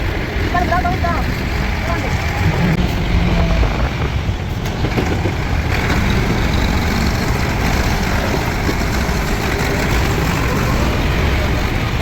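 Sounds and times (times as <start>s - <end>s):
diesel engine droning: 0.1s - 12.0s.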